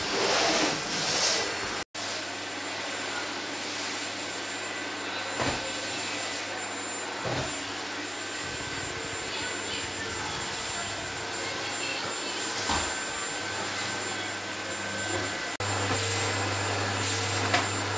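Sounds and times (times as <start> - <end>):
vacuum cleaner whining: 0.0 - 17.9.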